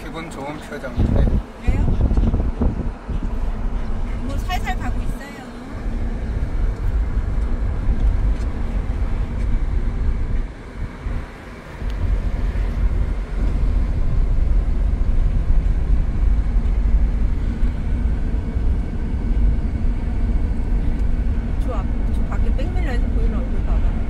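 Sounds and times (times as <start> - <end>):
road noise inside moving car: 0.0 - 24.0.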